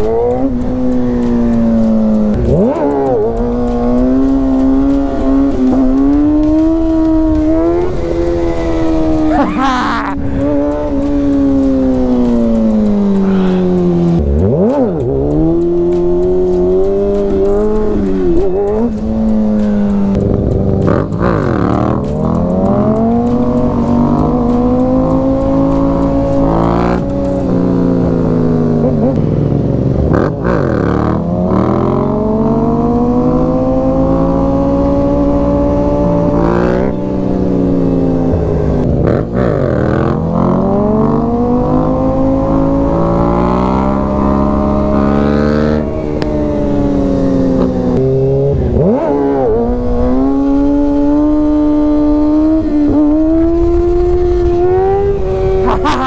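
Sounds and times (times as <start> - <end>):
motorcycle passing by: 0.0 - 56.0
sport bike engines revving: 0.0 - 56.0.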